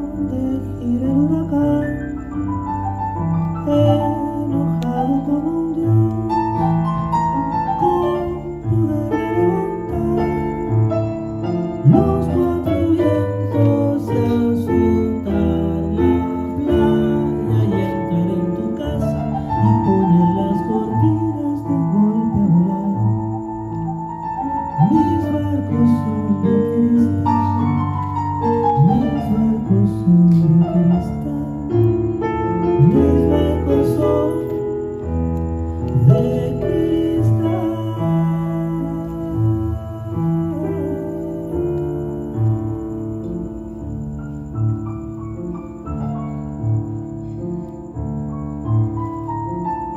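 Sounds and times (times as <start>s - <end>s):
keyboard piano chords and melody: 0.0s - 49.9s.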